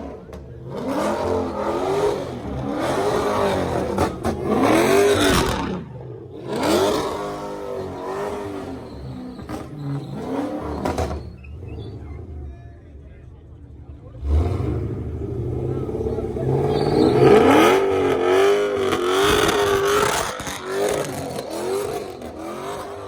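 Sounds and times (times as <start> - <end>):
engine revving hard: 0.0 - 12.6, 14.2 - 23.0.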